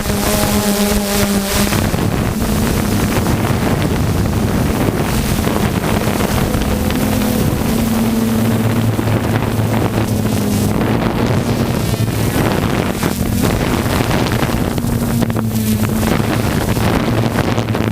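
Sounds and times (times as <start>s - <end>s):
engine humming: 0.0s - 17.9s
wind buffeting microphone: 0.0s - 17.9s.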